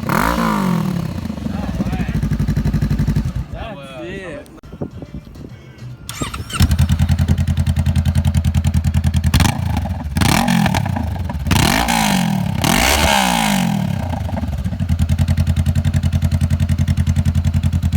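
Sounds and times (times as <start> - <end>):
motorcycle engine idling and revving: 0.0 - 3.6, 4.7 - 17.9.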